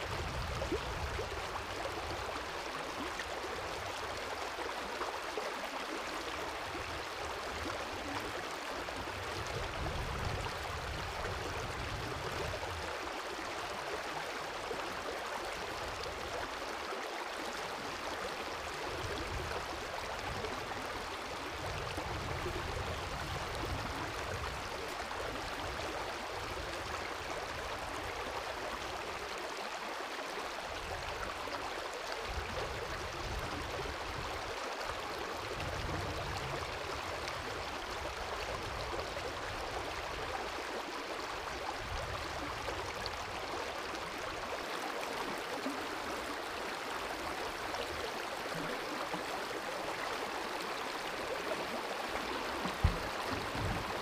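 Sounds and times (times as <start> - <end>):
river running over stones: 0.0 - 54.0.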